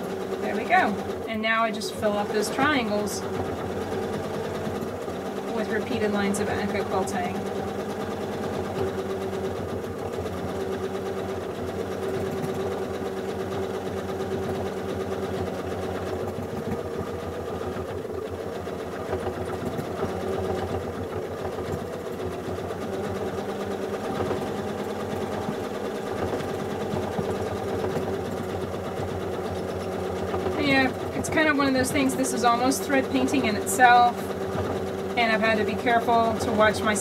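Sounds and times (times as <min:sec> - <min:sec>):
sewing machine stitching rapidly: 0:00.0 - 0:37.0.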